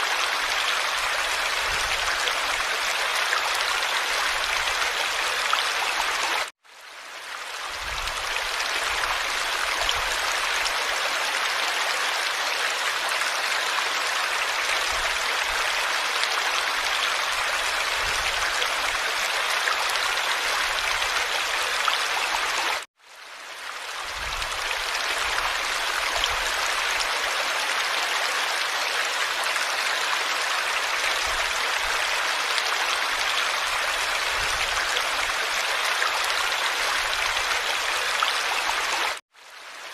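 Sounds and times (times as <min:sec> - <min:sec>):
stream water rushing: 0:00.0 - 0:06.5, 0:07.2 - 0:22.9, 0:23.6 - 0:39.2.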